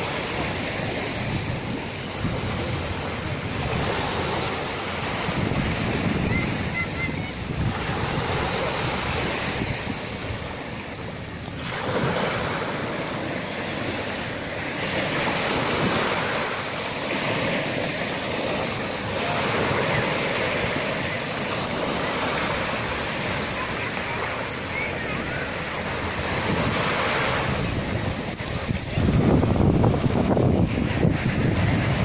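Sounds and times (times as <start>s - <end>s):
sea waves breaking on shore: 0.0s - 32.0s.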